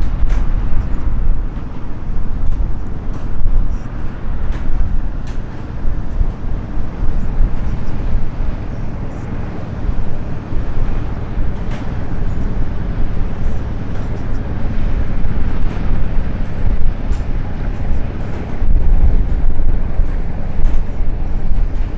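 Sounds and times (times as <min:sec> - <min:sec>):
wind rumbling on microphone: 0:00.0 - 0:21.9.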